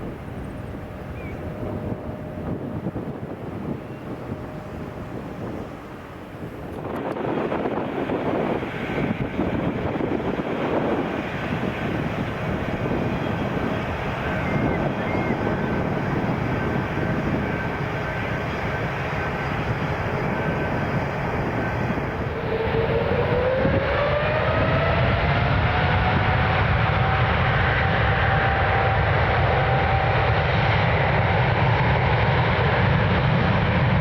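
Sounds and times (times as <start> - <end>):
jet airliner engines passing: 0.0 - 34.0
rising engine whine: 0.0 - 34.0.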